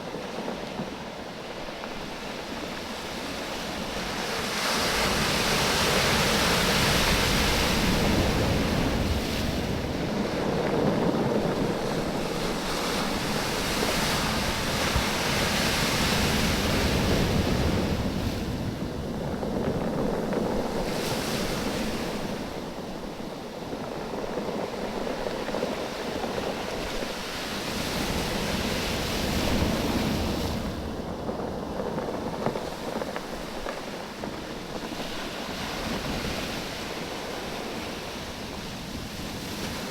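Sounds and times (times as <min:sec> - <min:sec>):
waves surging on a beach: 0:00.0 - 0:39.9.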